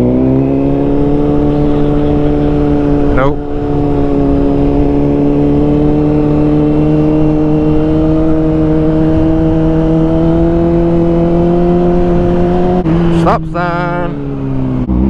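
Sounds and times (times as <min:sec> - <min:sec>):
motorcycle engine pulling: 0:00.0 - 0:15.0
wind and road noise: 0:00.0 - 0:15.0.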